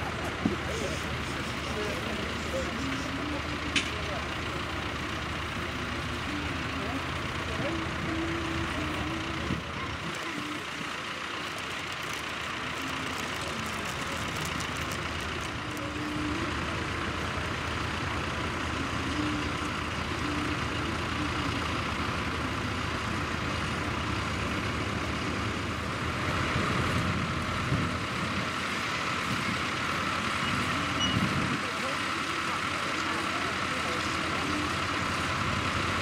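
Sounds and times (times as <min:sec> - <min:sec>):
diesel tractor engines running: 0:00.0 - 0:36.0.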